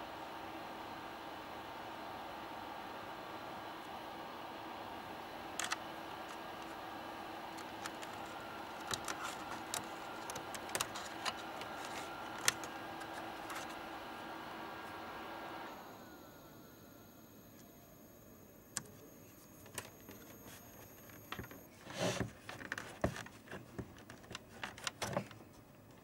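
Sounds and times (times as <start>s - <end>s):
faint hum: 0.0s - 21.9s.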